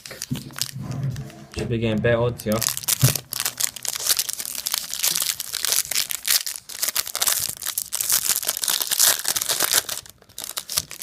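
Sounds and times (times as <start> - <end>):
foil wrapper tearing and crinkling: 0.0 - 0.8, 2.6 - 11.0.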